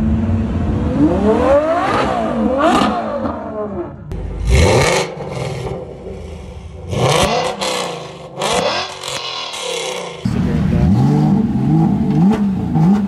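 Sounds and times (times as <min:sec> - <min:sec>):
car engine revving: 0:00.0 - 0:13.0
car exhaust revs: 0:00.8 - 0:13.0.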